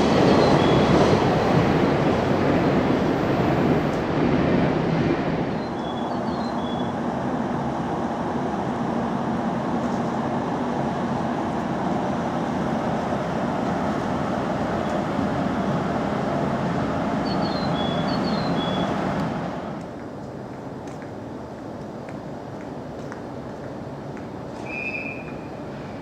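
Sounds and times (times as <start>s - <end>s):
electric train rumble and hum: 0.0s - 26.0s.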